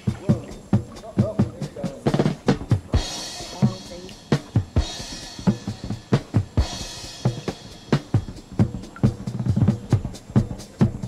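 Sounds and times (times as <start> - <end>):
drum kit playing a steady beat: 0.0 - 11.0.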